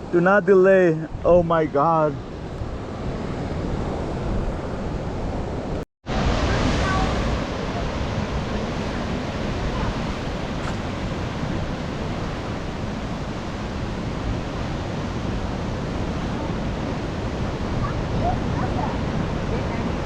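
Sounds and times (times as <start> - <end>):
ocean surf: 0.0 - 20.0
wind on microphone: 1.0 - 20.0.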